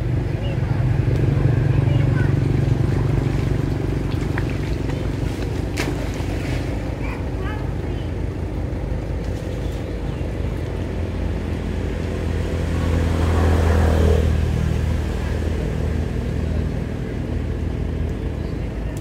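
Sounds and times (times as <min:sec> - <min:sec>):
vehicle engine passing by: 0:00.0 - 0:07.6, 0:09.2 - 0:18.7.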